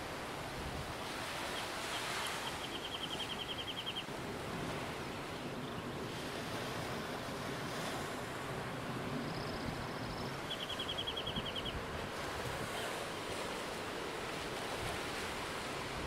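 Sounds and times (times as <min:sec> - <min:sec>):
ocean surf: 0:00.0 - 0:16.0
wind: 0:00.0 - 0:16.0.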